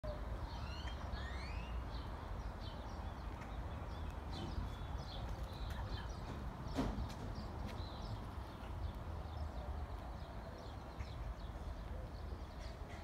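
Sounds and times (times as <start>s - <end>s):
birds chirping and calling: 0.1s - 13.0s.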